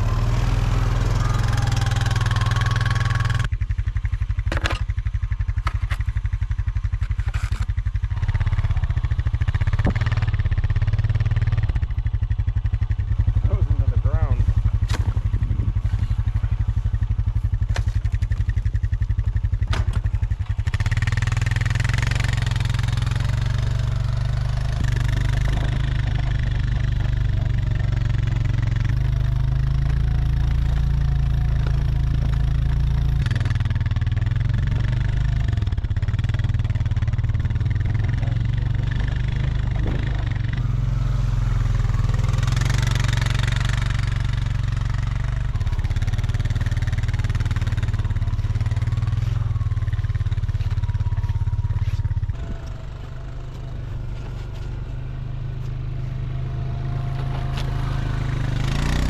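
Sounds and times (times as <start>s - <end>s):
atv engine running under load: 0.0s - 59.0s.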